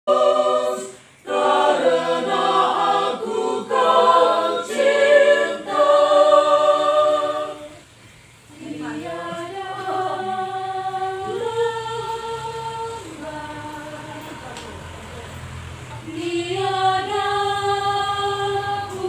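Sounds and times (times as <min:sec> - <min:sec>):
group singing a cappella: 0:00.0 - 0:19.0.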